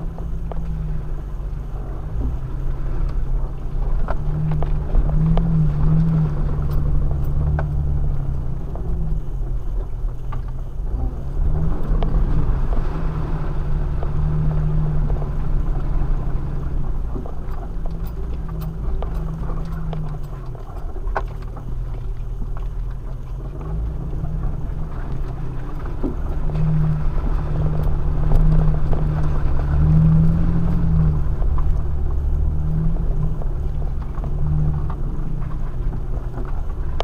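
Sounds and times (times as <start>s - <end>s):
vehicle engine from inside cab: 0.0s - 37.0s
clicks and knocks from bumpy ground: 2.1s - 13.3s, 13.9s - 37.0s.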